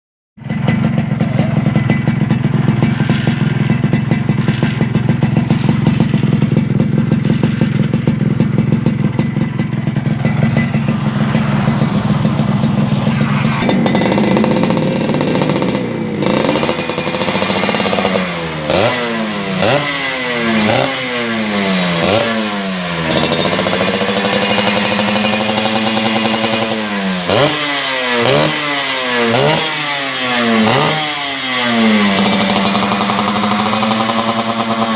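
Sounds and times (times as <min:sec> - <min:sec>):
two-stroke motorcycle engine revving: 0:00.4 - 0:34.9.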